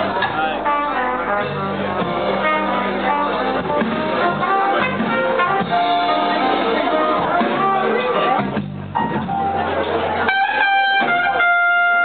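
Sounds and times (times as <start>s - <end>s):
jazz soul band playing: 0.0s - 12.0s
trumpet melody: 0.4s - 8.6s, 10.2s - 12.0s.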